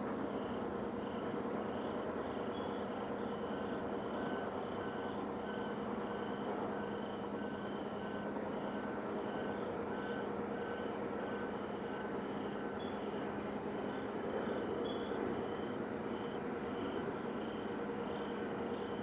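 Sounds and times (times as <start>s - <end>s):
droning hum from the sky: 0.0s - 19.0s.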